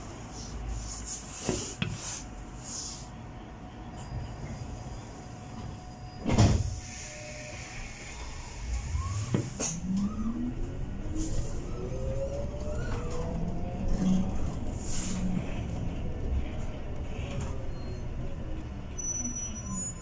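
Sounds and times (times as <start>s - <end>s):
road and tyre noise: 0.0s - 20.0s.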